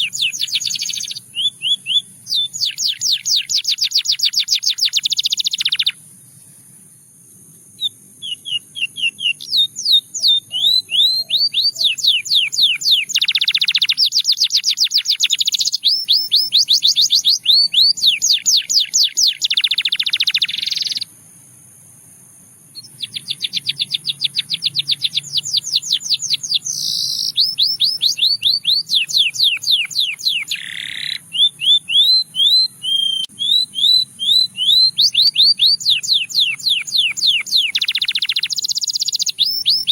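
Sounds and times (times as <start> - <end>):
canary singing trills: 0.0 - 7.0, 7.6 - 21.1, 22.7 - 39.9.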